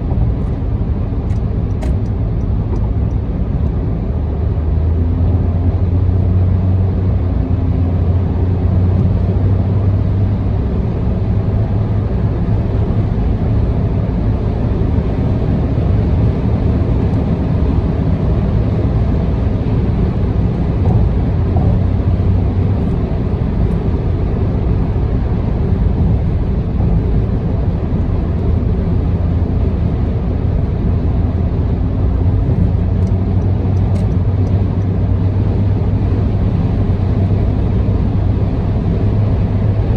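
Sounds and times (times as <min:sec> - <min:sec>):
car cabin road noise drone: 0:00.0 - 0:39.9.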